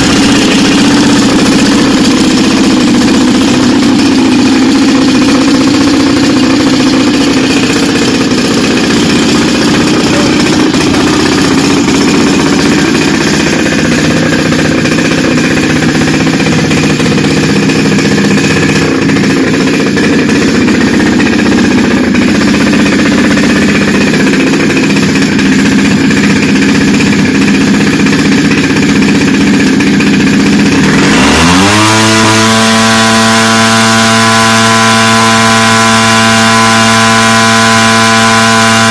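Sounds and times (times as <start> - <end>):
motor spinning up: 0.0 - 38.9
propeller engine running: 0.0 - 38.9.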